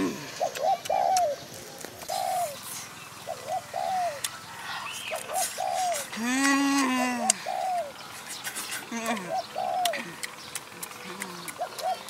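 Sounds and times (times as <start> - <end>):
dove cooing: 0.0 - 10.2, 10.9 - 12.0.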